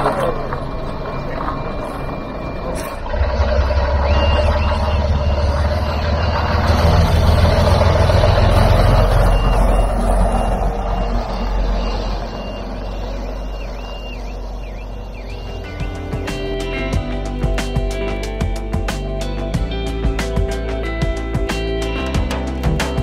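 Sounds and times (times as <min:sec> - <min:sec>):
reversing alarm beeping: 0:00.0 - 0:18.5
diesel bus engine rumble: 0:00.0 - 0:23.0.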